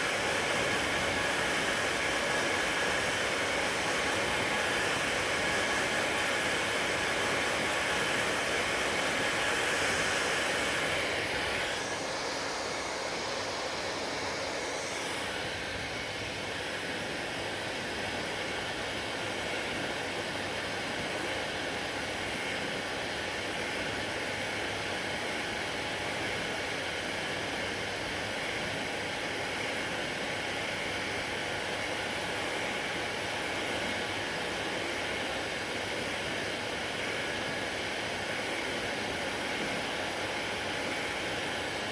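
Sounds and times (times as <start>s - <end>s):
hair dryer blowing: 0.0s - 41.9s.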